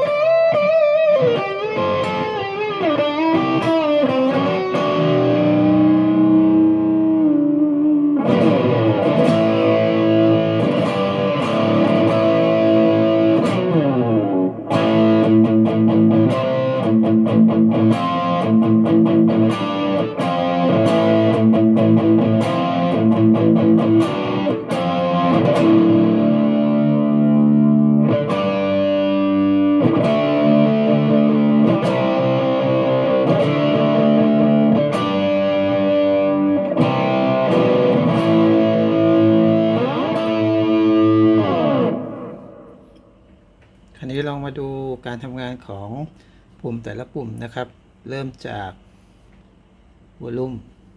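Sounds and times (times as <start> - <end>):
distorted electric guitar: 0.0 - 43.4.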